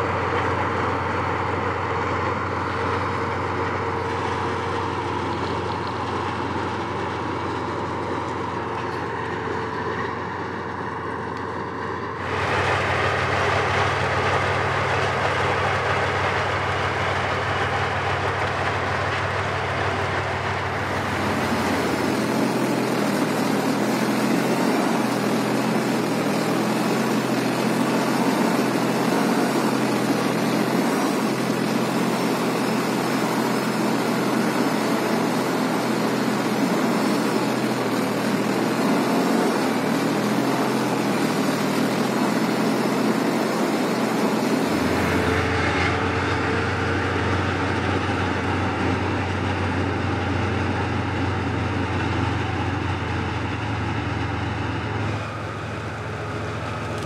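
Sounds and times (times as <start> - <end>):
tank diesel engine rumbling: 0.0 - 57.0.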